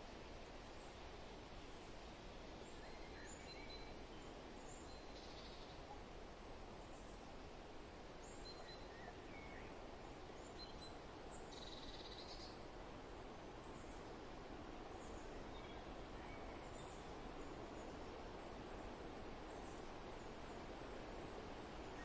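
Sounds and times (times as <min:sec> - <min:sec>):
faint wind noise: 0:00.0 - 0:22.0.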